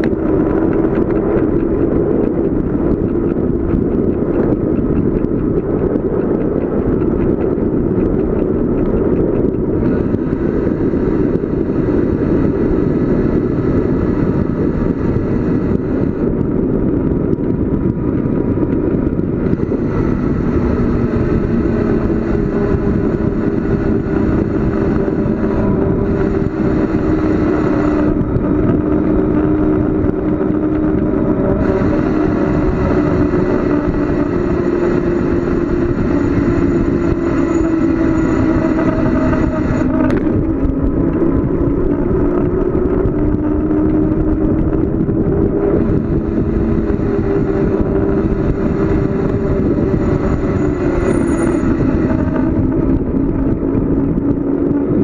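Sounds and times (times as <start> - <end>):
bicycle tyre noise: 0.0 - 55.0
wind rushing on microphone: 0.0 - 55.0.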